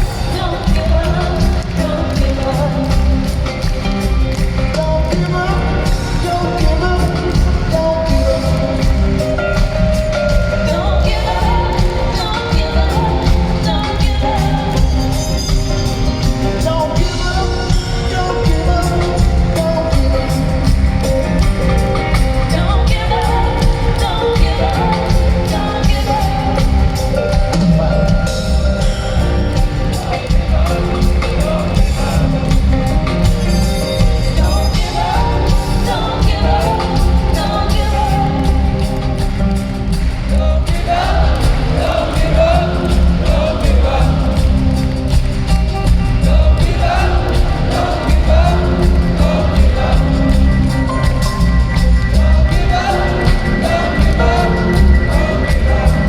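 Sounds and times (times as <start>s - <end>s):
drum kit: 0.0s - 56.0s
lead singer singing: 0.0s - 56.0s
live rock band playing: 0.0s - 56.0s.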